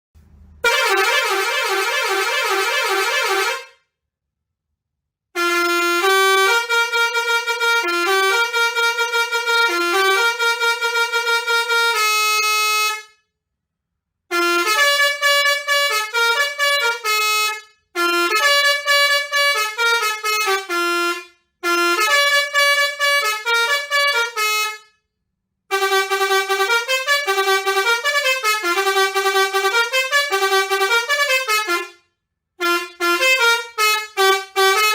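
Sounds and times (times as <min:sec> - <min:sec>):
multi-trumpet air horn melodies: 0:00.6 - 0:03.8, 0:05.4 - 0:13.2, 0:14.3 - 0:24.9, 0:25.7 - 0:34.9.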